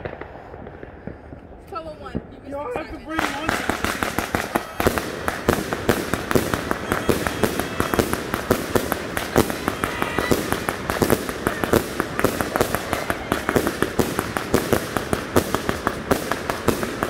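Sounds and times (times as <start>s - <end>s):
firework bursts: 0.0s - 17.0s.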